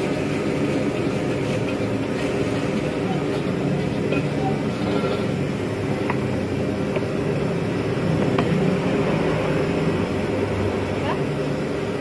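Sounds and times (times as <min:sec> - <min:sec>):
gas burner rumbling: 0:00.0 - 0:12.0.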